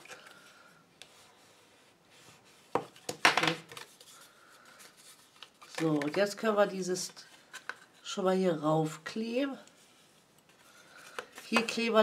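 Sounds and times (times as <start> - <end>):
card rustling and scraping: 0.0 - 8.1, 9.7 - 12.0.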